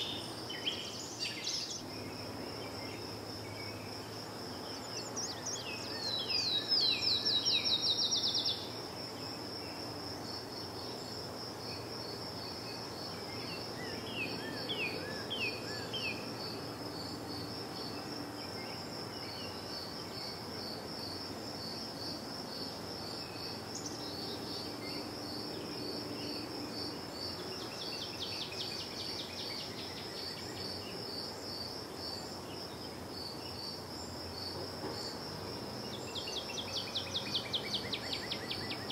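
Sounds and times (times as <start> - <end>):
songbirds singing: 0.0 - 21.7, 23.0 - 38.9
crickets chirping: 0.0 - 38.9.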